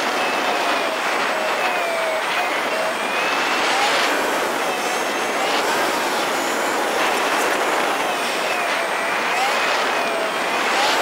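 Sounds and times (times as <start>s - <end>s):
faint motorcycle engine whine: 0.0s - 11.0s
wind and road noise: 0.0s - 11.0s.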